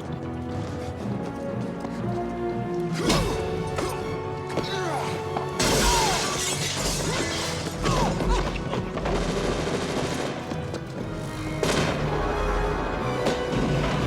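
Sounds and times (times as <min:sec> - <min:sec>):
film score music: 0:00.0 - 0:14.0.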